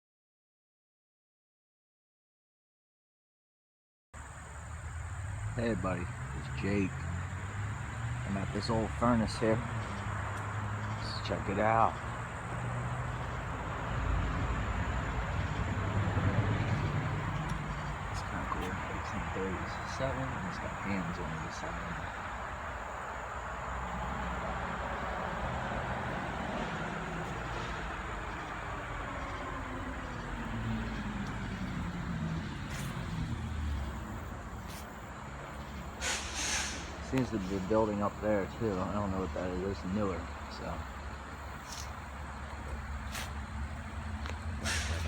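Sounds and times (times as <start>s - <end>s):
low engine hum: 4.2s - 45.0s
steady traffic rumble: 4.2s - 45.0s
tyres rushing on road: 4.2s - 45.0s
vehicle passing by: 4.2s - 45.0s.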